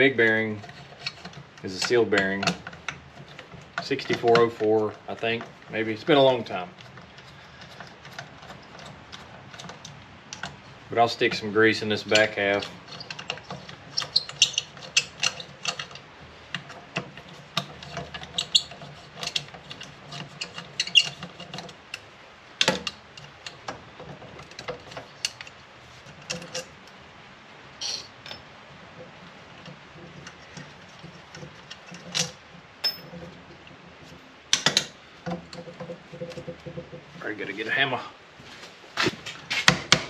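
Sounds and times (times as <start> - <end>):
metal clicks and knocks: 0.0 - 10.6, 11.2 - 27.0, 27.8 - 37.6.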